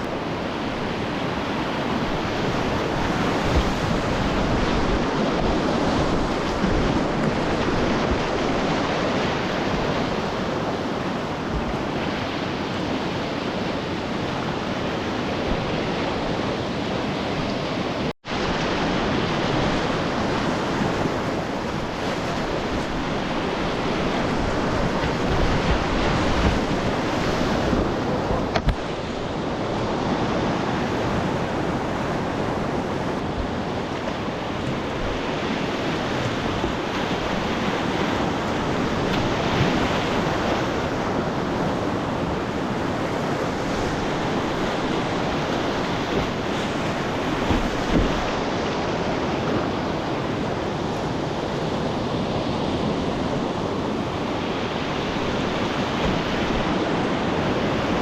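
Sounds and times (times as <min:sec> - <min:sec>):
rushing whitewater: 0:00.0 - 0:58.0
wind buffeting microphone: 0:00.0 - 0:58.0.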